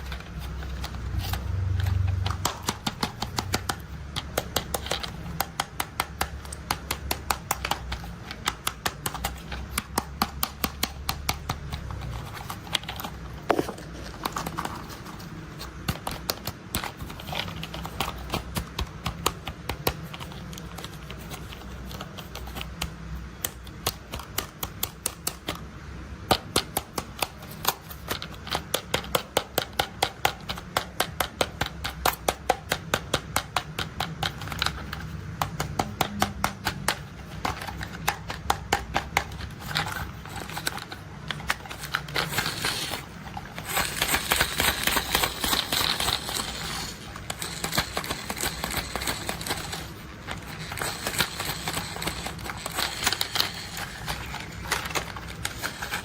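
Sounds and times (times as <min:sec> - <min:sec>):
plastic toy clicking: 0:00.0 - 0:25.7, 0:26.3 - 0:56.0.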